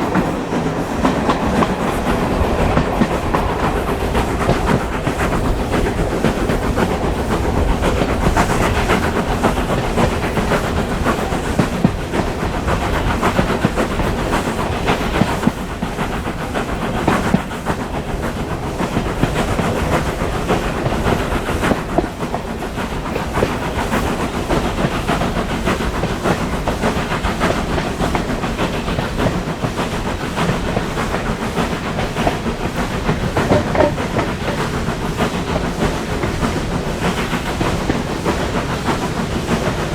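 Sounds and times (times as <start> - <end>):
wheels clattering over rail joints: 0.0 - 39.7
train rumbling along track: 0.0 - 39.9.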